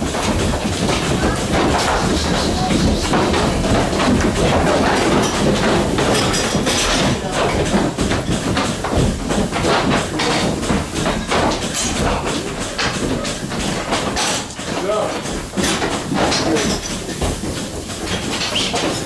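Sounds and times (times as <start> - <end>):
metal clatter and knocks: 0.0 - 19.0.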